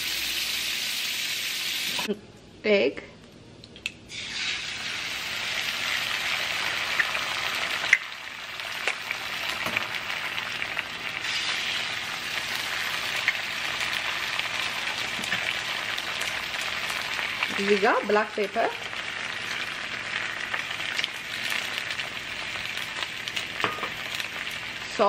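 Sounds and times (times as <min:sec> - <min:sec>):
eggs sizzling in a pan: 0:00.0 - 0:02.1, 0:04.1 - 0:25.0.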